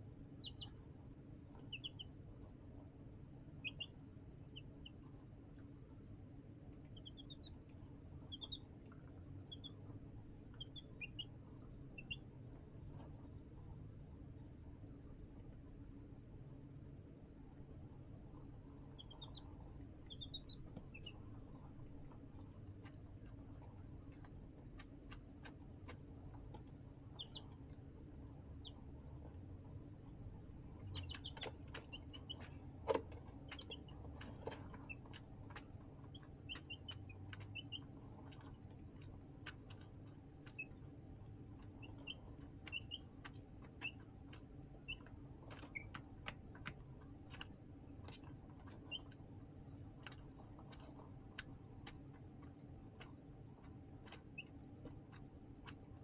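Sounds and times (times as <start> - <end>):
low steady hum: 0.0 - 56.0
baby chicks peeping: 0.2 - 5.9, 6.6 - 14.5, 18.2 - 56.0.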